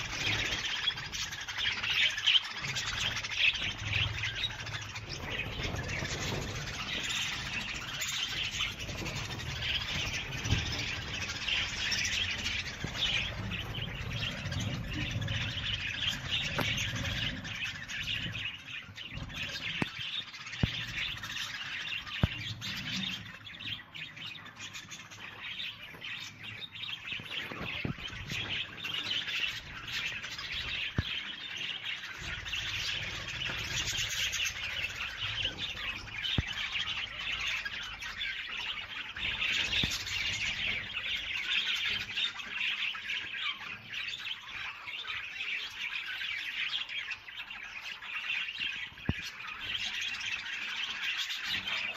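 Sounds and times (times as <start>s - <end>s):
birds chirping in chorus: 0.0s - 51.9s.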